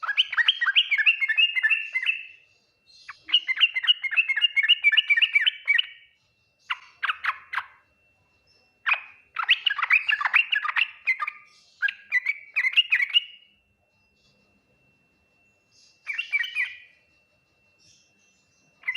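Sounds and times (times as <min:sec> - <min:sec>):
bird singing bubbly chatter: 0:00.0 - 0:18.9.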